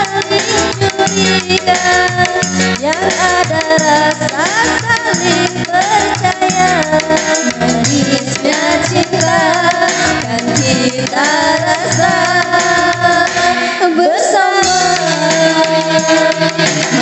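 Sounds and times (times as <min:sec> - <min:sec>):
backing music with steady beat: 0:00.0 - 0:17.0
young woman singing: 0:00.0 - 0:17.0.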